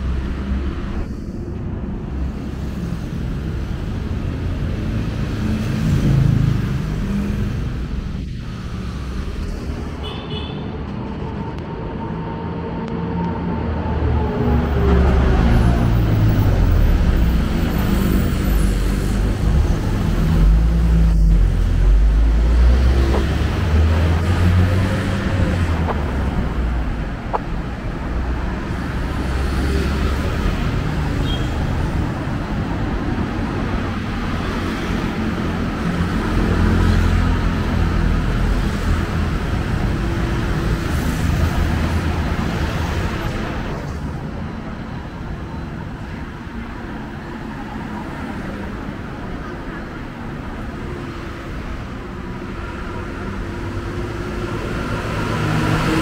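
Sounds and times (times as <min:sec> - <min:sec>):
road noise: 0:00.0 - 0:56.0
vehicle engines rumbling: 0:00.0 - 0:56.0.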